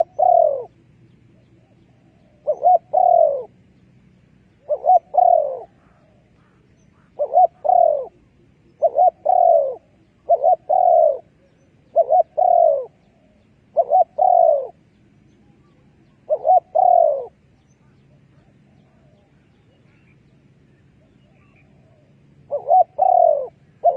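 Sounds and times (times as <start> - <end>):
dove cooing: 0.0 - 3.8, 4.5 - 23.9.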